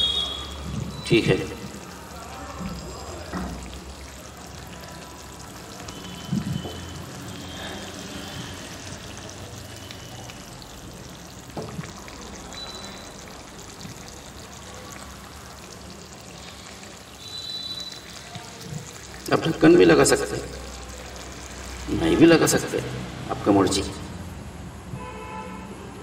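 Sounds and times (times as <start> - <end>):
curry bubbling and sizzling: 0.0 - 24.3.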